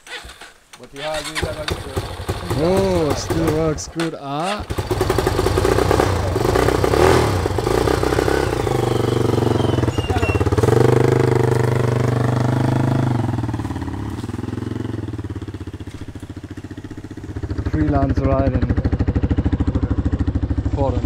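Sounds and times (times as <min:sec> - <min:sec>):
small motorcycle engine: 0:01.2 - 0:03.9, 0:04.5 - 0:21.0.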